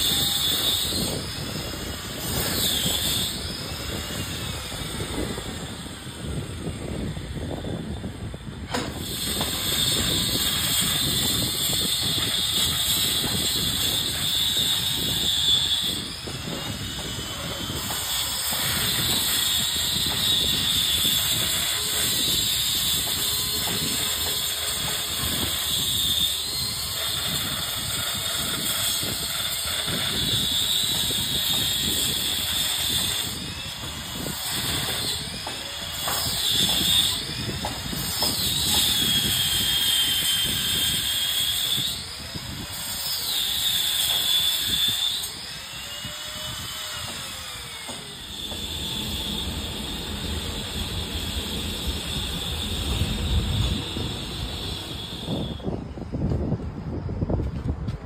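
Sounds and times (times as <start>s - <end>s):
grinding disc cutting brick: 0.0s - 8.0s, 8.7s - 56.4s
angle grinder motor whine: 0.0s - 56.6s.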